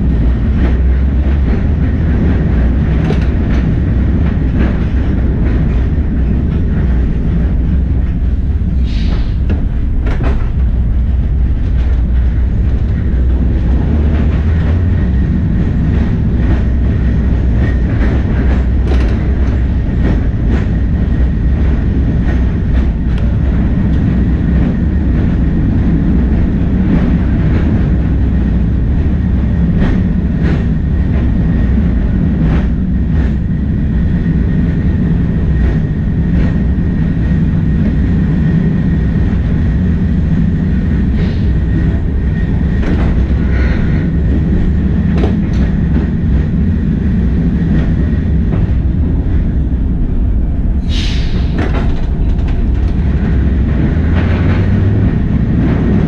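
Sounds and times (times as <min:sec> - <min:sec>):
wheels clicking on rails: 0:00.0 - 0:50.1, 0:51.0 - 0:56.0
tram rumbling: 0:00.0 - 0:56.0.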